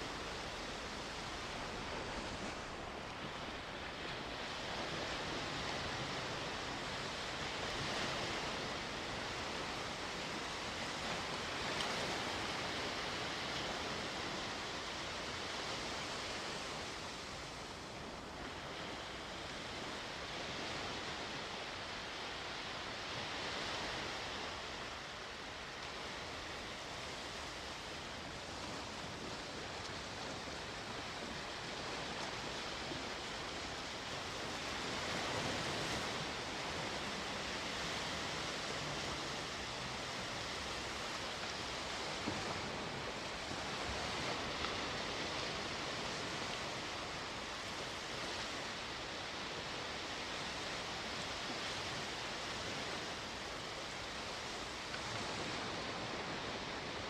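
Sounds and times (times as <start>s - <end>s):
sea waves washing ashore: 0.0s - 57.0s.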